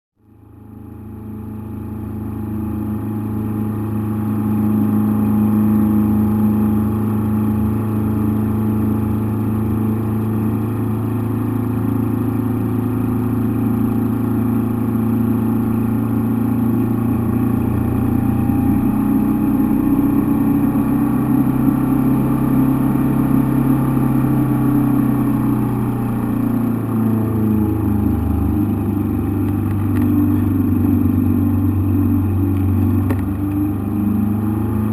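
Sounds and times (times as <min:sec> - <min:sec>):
engine droning in cockpit: 0:00.2 - 0:34.9.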